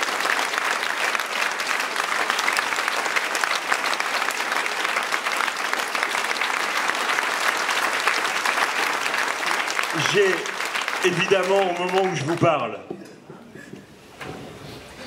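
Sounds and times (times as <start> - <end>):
crowd applauding: 0.0 - 12.9.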